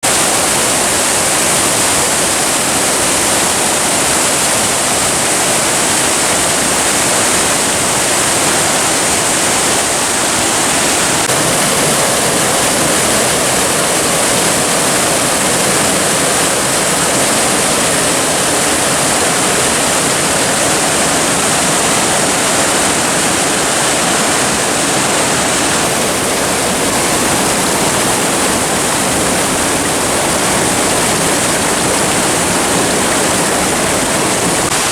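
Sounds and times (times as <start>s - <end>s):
rushing stream and waterfalls: 0.0s - 34.9s.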